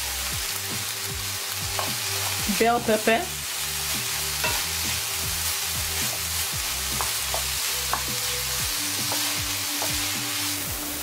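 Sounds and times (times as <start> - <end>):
background music: 0.0 - 11.0
vegetables sizzling in a frying pan: 0.0 - 11.0.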